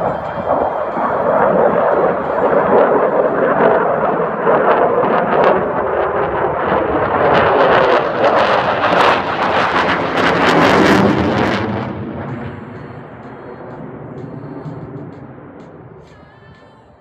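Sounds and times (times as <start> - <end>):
jet engine crackle: 0.0 - 16.1
jet engine rushing overhead: 0.0 - 17.0.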